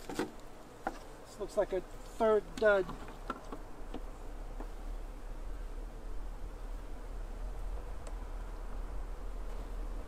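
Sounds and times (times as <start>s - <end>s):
low rumble and hiss: 0.0s - 10.0s.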